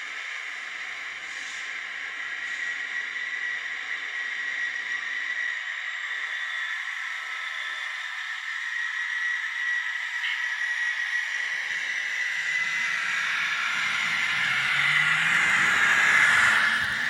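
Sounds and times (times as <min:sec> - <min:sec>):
thin hiss with high whine: 0:01.2 - 0:17.0.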